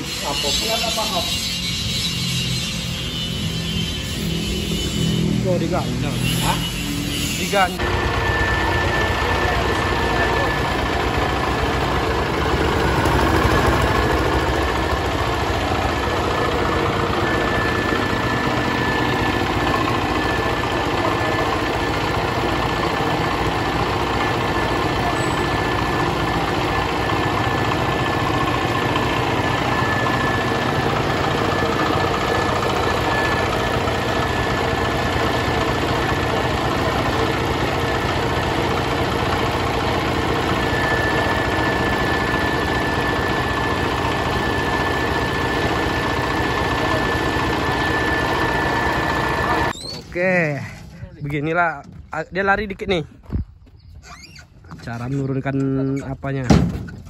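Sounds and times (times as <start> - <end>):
high-pitched whine: 0.0 - 22.6, 23.2 - 38.9, 39.6 - 50.0
diesel engine idling: 0.0 - 49.8.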